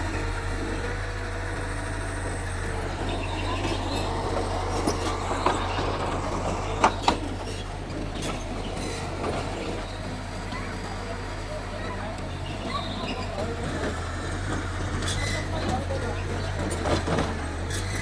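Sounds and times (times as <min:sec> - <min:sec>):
bulldozer engine running: 0:00.0 - 0:18.0.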